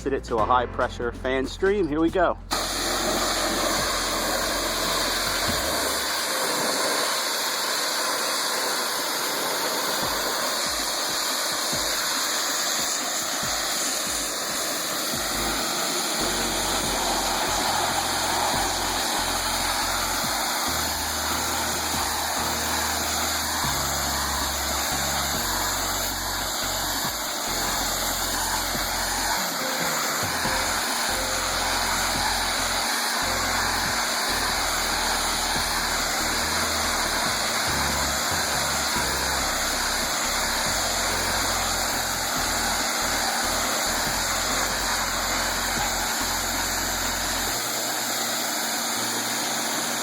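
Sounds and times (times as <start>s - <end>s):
pump running: 2.4s - 50.0s
pressure washer spray hissing: 2.5s - 50.0s.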